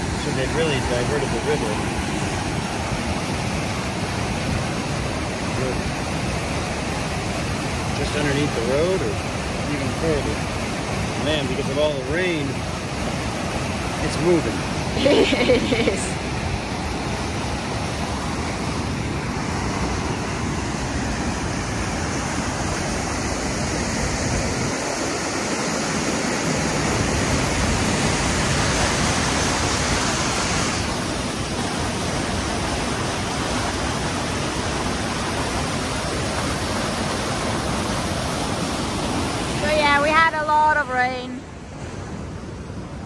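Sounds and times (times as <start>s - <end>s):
river rushing through channel: 0.0s - 43.0s.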